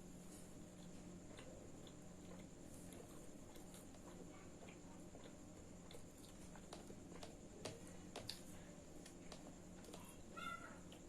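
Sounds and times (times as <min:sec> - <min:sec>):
quiet steady hum: 0:00.0 - 0:11.0
soft eating clicks: 0:00.3 - 0:11.0.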